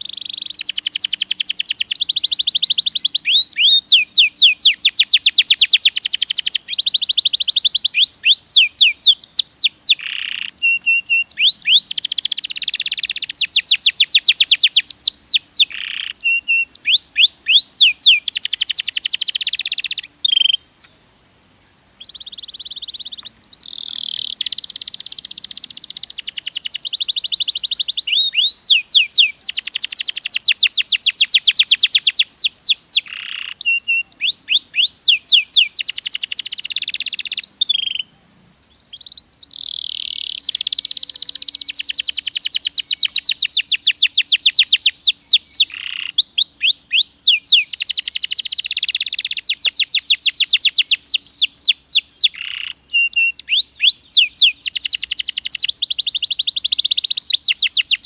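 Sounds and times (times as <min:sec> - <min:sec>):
canary singing trills: 0:00.0 - 0:21.0, 0:22.0 - 0:58.0.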